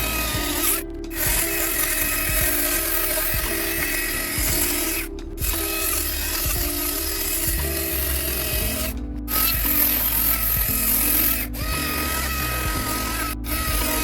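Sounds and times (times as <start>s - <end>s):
background music: 0.0s - 14.0s
power tool working wood: 0.0s - 14.0s.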